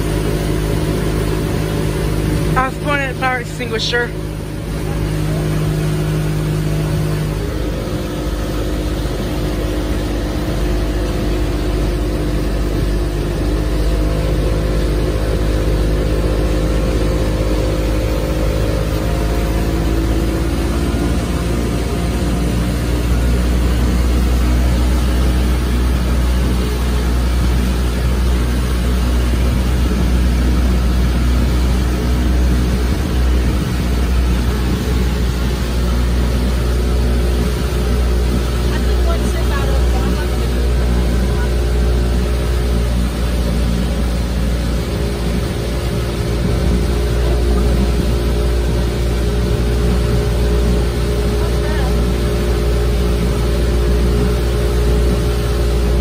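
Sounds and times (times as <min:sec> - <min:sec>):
motorboat engine drone: 0:00.0 - 0:56.0
wind and water rushing: 0:00.0 - 0:56.0.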